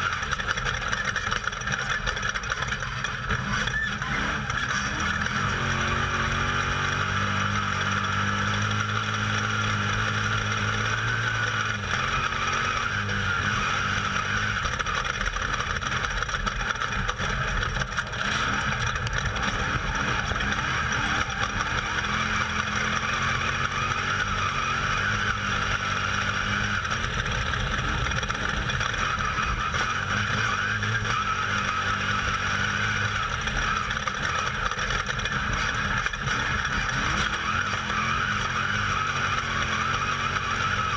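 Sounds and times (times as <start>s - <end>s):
off-road vehicle engine: 0.0s - 40.9s.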